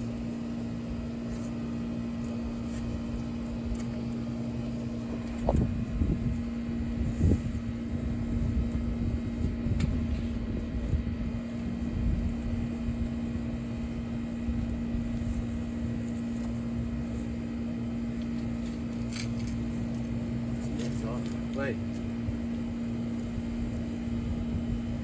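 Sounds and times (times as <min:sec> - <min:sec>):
digging in soft soil: 0:00.0 - 0:25.0
low mechanical hum: 0:00.0 - 0:25.0.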